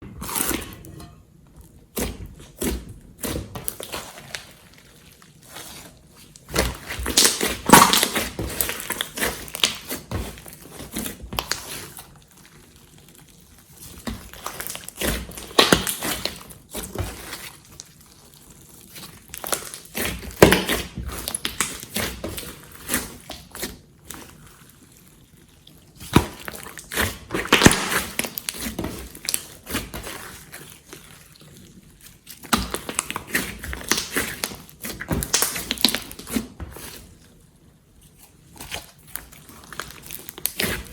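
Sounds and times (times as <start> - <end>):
slime squeezed with wet popping: 1.9 - 37.0.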